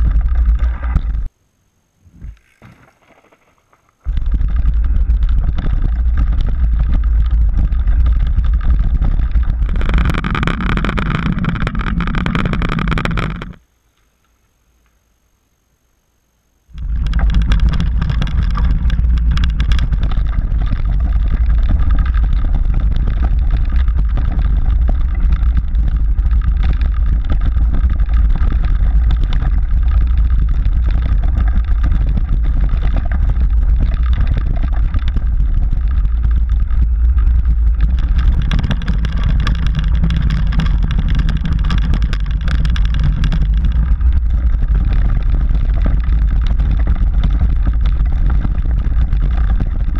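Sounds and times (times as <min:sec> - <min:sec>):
bike rattling over ground: 0:00.0 - 0:01.3, 0:02.3 - 0:13.6, 0:16.7 - 0:49.9
wind on microphone: 0:00.0 - 0:01.3, 0:04.0 - 0:13.6, 0:16.7 - 0:49.9.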